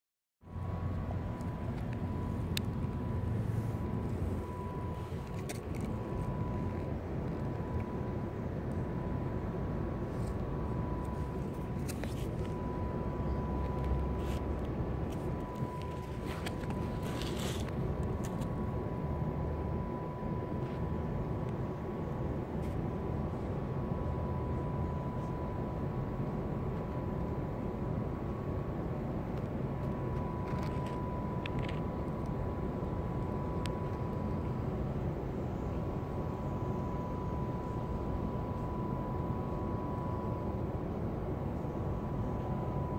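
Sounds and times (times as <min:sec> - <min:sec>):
faint high steady tone: 0:00.4 - 0:42.9
outdoor background rumble: 0:00.4 - 0:42.9.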